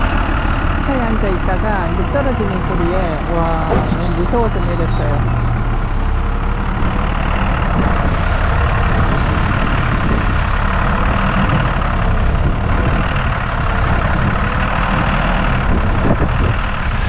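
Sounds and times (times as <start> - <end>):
forklift engine rumbling: 0.0 - 17.0.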